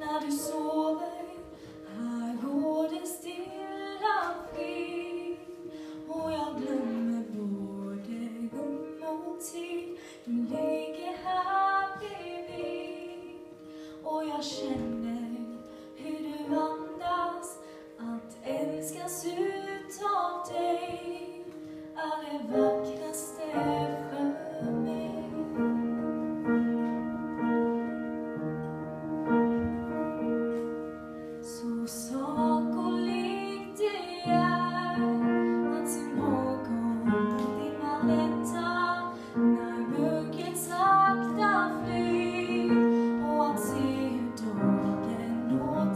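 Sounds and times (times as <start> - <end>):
woman singing: 0.0 - 26.1, 31.4 - 45.9
piano: 0.0 - 45.9.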